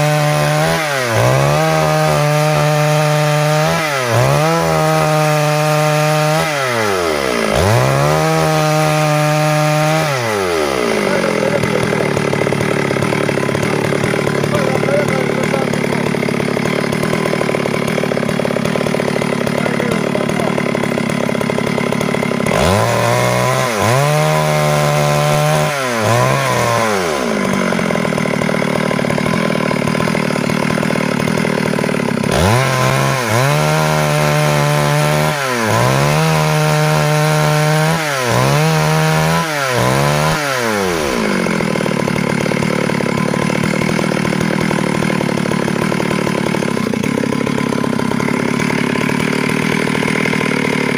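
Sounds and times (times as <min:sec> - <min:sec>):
chainsaw cutting wood: 0:00.0 - 0:50.9
chainsaw idling and revving: 0:00.0 - 0:50.9.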